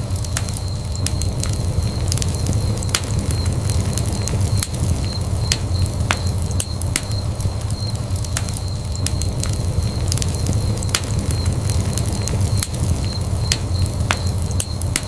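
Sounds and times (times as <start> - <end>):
flames rumbling: 0.0 - 15.0
logs popping and crackling: 0.0 - 15.0.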